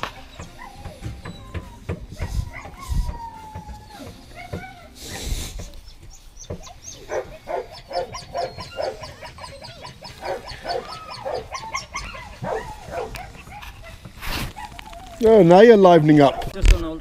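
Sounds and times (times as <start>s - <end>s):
puppy yelping and whimpering: 0.0s - 15.5s.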